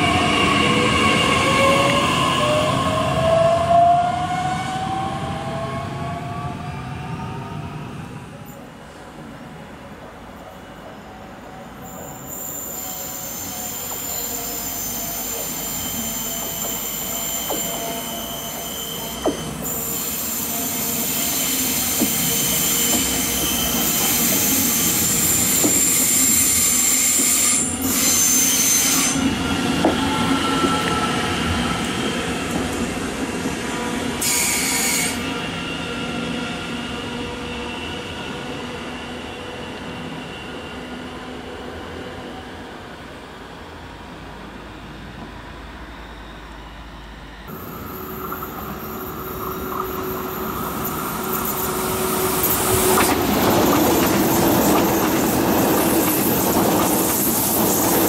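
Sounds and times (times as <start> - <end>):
train wheels squealing on rails: 0.0 - 9.0, 10.4 - 58.0.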